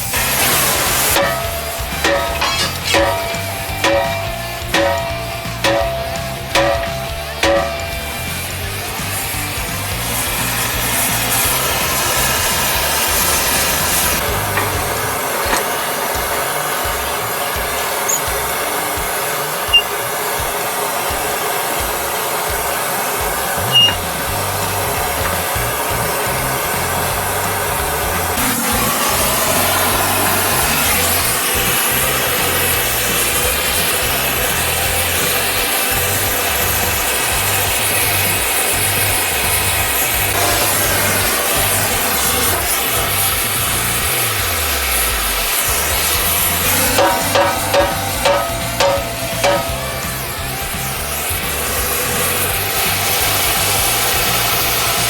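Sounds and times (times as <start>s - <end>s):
background music with bass line: 0.0s - 15.2s, 22.6s - 55.0s
metalworking hiss: 0.0s - 55.0s.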